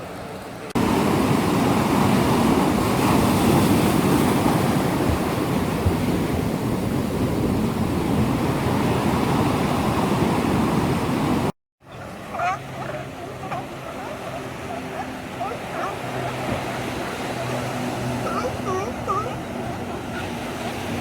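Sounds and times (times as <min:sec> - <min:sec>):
ocean waves washing: 0:00.0 - 0:21.0.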